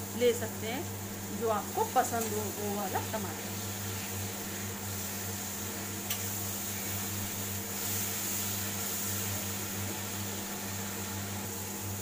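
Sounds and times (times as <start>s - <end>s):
sauce sizzling in oil: 0.0s - 12.0s
steady low hum: 0.0s - 12.0s.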